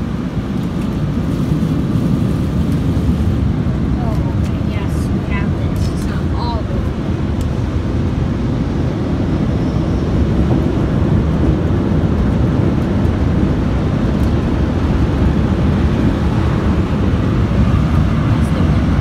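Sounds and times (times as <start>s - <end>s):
car wash machinery rumbling: 0.0s - 19.0s.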